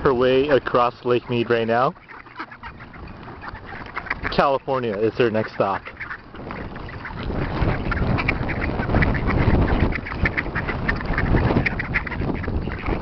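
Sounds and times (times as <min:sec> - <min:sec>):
ducks quacking: 0:00.0 - 0:13.0
steady low rumble: 0:02.0 - 0:13.0.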